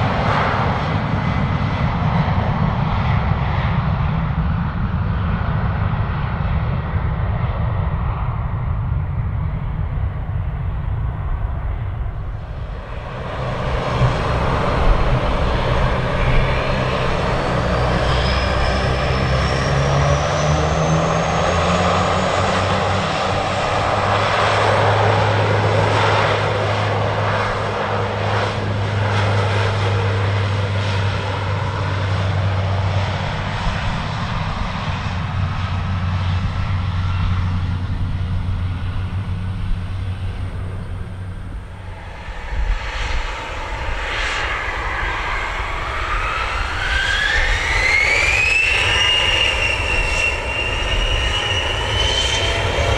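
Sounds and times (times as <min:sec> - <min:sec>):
jet engines running: 0:00.0 - 0:52.9
turboprop engines spooling up: 0:10.5 - 0:52.9.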